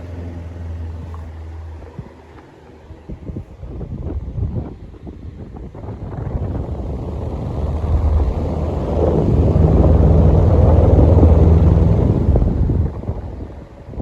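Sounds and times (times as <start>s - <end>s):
electric fan airflow buffeting: 0.0s - 14.0s
fan motor hum: 0.0s - 14.0s.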